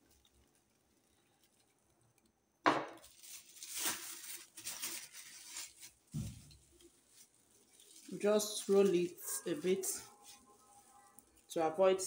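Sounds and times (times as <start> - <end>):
plastic bag crinkling: 0.0 - 2.2, 2.9 - 12.0.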